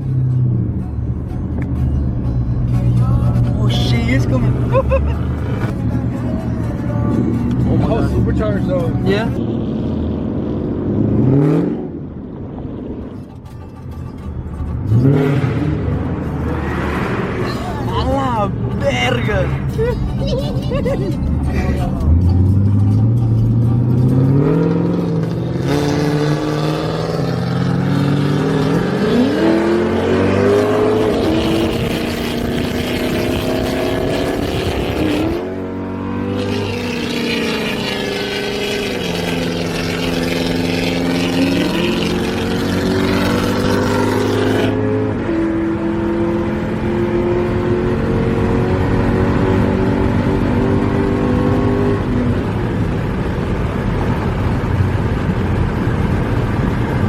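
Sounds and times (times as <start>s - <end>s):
loud car engine accelerating: 3.4s - 13.2s, 14.8s - 18.8s, 19.6s - 57.0s.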